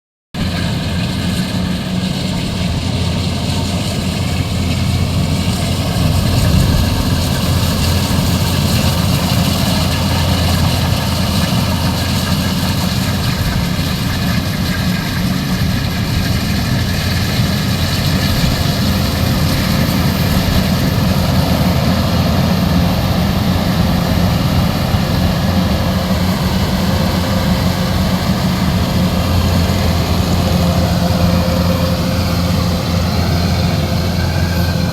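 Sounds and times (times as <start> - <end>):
diesel engine droning: 0.4 - 34.9.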